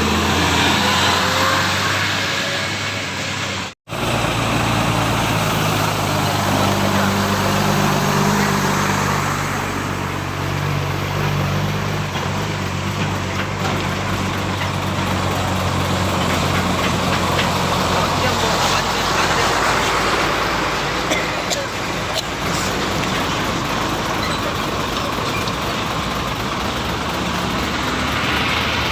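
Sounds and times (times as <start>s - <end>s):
heavy vehicle engine running: 0.0s - 28.9s
road noise: 0.0s - 28.9s.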